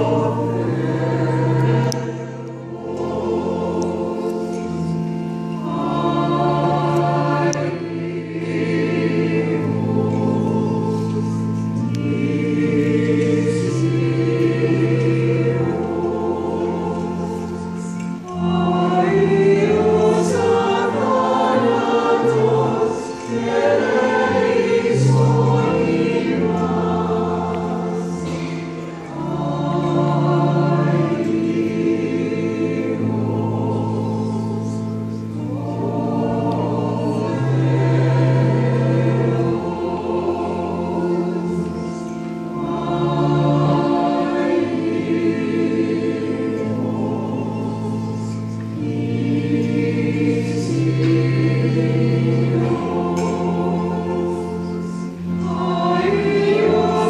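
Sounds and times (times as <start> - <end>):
church choir singing a hymn: 0.0 - 57.0.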